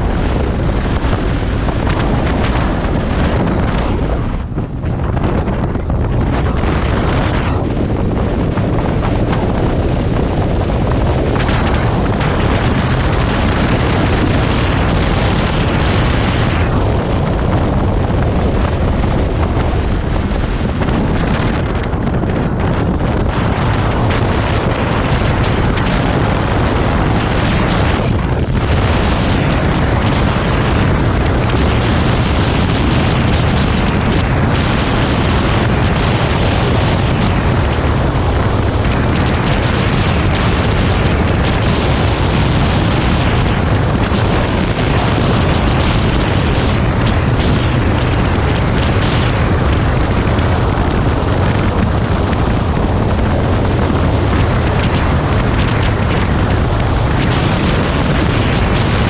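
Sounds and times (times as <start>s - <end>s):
deep motorcycle rumble: 0.0s - 59.0s
wind buffeting microphone: 0.0s - 59.0s.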